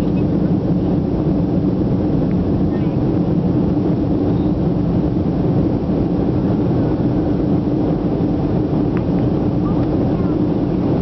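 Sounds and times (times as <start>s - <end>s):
jet engine and airflow roar: 0.0s - 11.0s
low hum: 0.0s - 11.0s.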